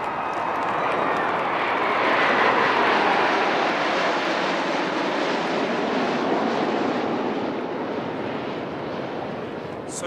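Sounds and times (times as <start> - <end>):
jets flying past: 0.1 - 10.0.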